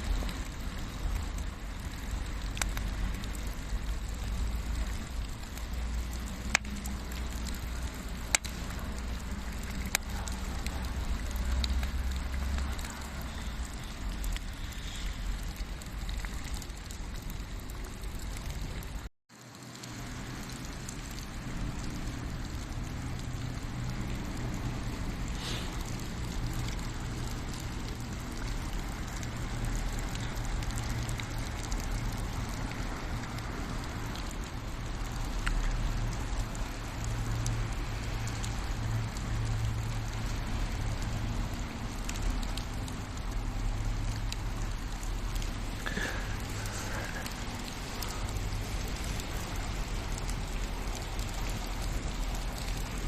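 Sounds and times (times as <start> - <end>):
faint drips: 0.0 - 53.0
rain pattering: 0.0 - 53.0.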